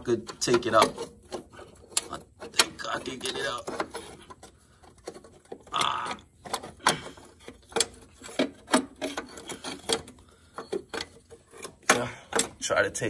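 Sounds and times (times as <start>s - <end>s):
loose metal parts knocking and rattling: 0.0s - 13.0s.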